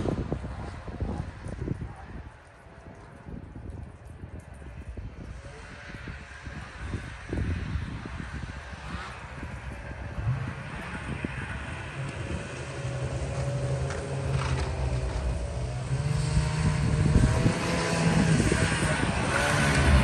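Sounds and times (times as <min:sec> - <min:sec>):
snowmobile engines running: 0:00.0 - 0:20.0.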